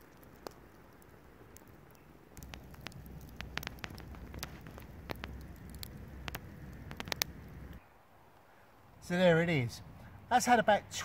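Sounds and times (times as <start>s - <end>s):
campfire embers crackling: 0.0s - 11.0s.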